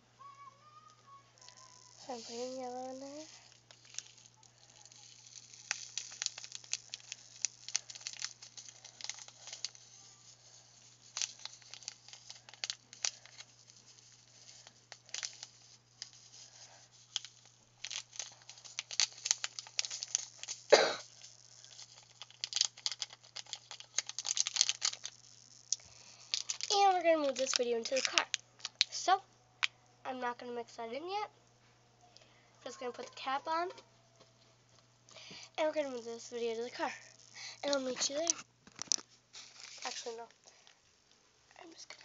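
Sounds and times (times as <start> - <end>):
plastic bag crinkling: 0.2 - 29.7, 34.4 - 40.8, 41.6 - 42.0.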